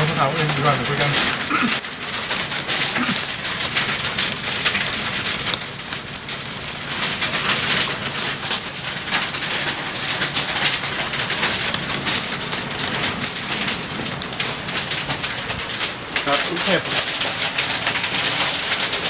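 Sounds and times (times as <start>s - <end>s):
hail and rain on car roof: 0.0s - 19.0s.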